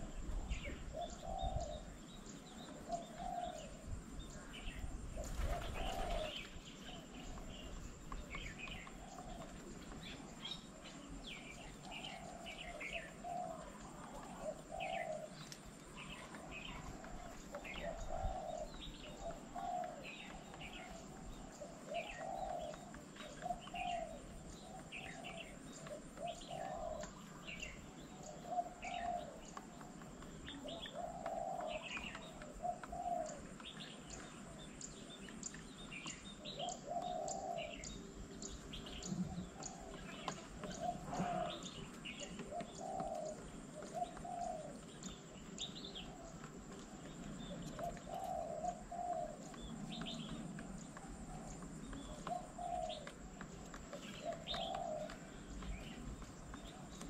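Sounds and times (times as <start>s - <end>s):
bird cooing: 0.0s - 57.0s
birds chirping and tweeting: 0.0s - 57.0s.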